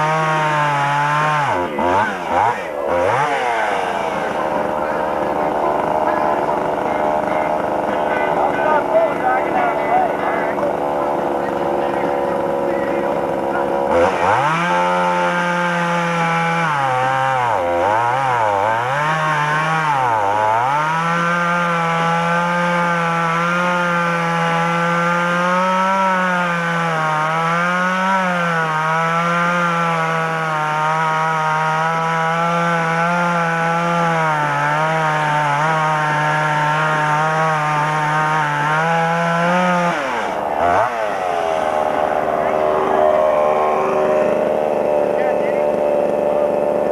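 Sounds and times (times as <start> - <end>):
two-stroke chainsaw revving: 0.0 - 46.9.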